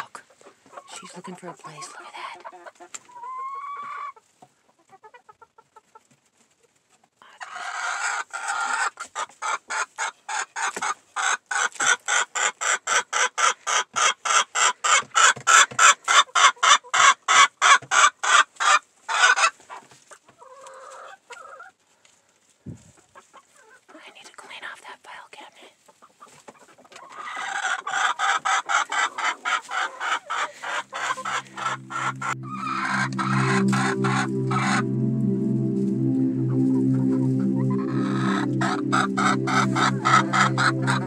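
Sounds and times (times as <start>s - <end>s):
chickens clucking: 0.0s - 21.8s, 22.7s - 24.2s, 25.8s - 41.0s.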